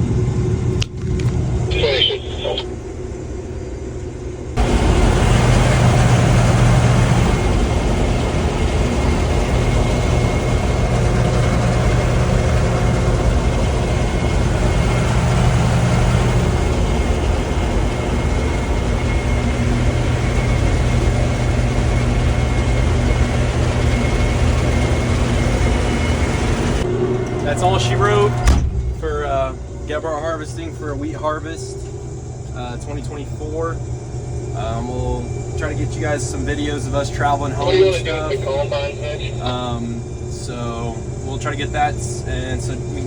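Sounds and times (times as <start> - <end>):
combine harvester engine drone: 0.0 - 43.0.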